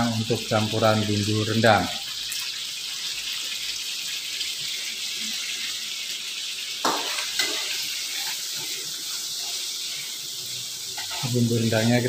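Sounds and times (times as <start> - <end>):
spice paste frying in wok: 0.0 - 12.0.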